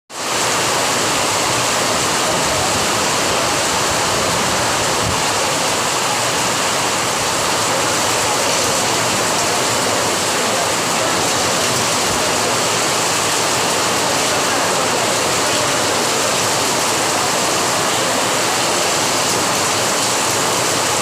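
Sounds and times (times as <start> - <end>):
heavy rain pouring: 0.1 - 21.0.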